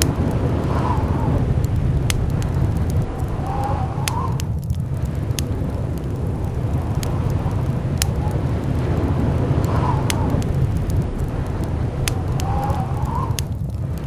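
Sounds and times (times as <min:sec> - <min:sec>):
blizzard wind rumbling: 0:00.0 - 0:14.0
howling wind whistle: 0:00.0 - 0:14.0
sharp crackles: 0:00.0 - 0:14.0.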